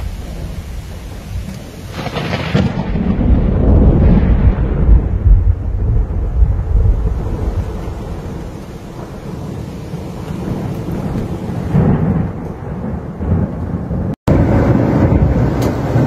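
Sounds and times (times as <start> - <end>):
heavy rain: 0.0 - 16.0
low rolling thunder: 0.0 - 16.0.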